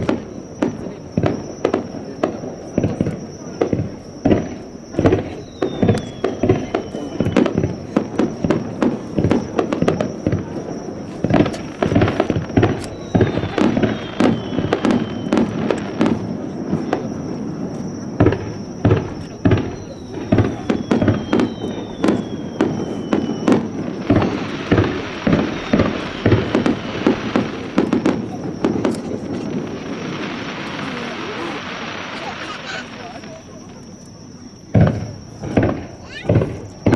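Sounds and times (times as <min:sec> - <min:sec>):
firework shell bursts and booms: 0:00.0 - 0:34.0, 0:34.7 - 0:36.9
dense firework crackling: 0:00.0 - 0:36.9
firework whistles falling: 0:00.0 - 0:36.9.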